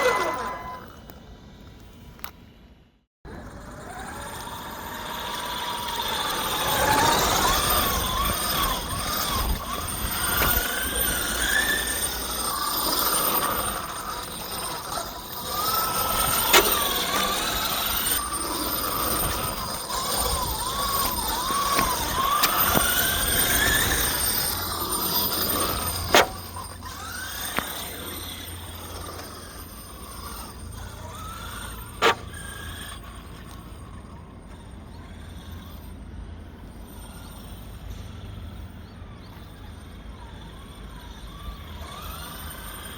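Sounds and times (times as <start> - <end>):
rc car motor whining: 0.0 - 2.3, 3.3 - 42.9.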